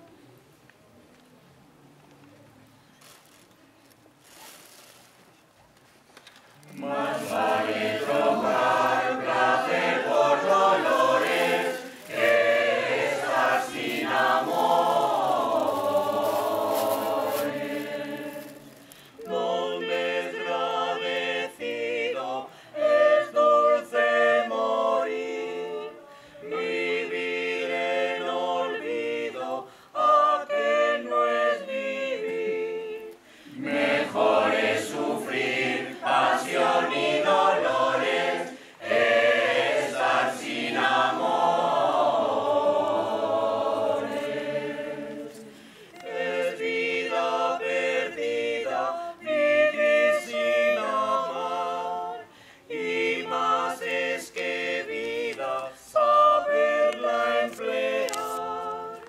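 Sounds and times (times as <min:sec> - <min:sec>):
mixed choir singing a cappella: 0:06.7 - 0:59.0.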